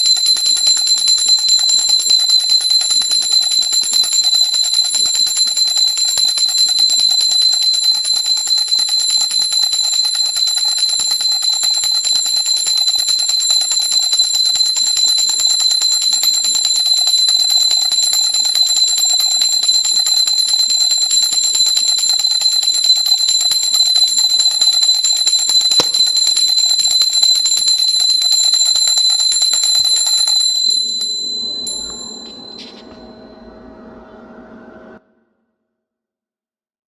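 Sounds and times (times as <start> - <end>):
hand bell rung rapidly: 0.0 - 33.2.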